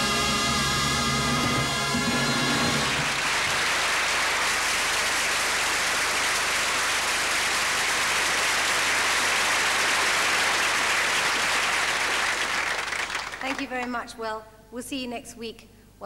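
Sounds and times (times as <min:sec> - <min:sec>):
audience applause: 0:00.0 - 0:13.8.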